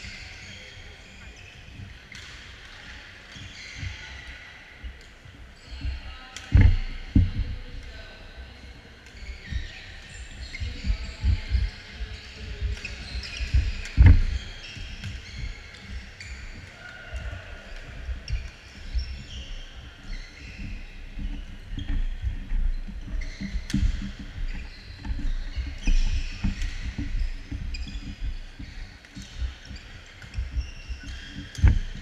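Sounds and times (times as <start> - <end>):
sneakers squeaking on court: 0.0 - 5.0, 9.0 - 32.0.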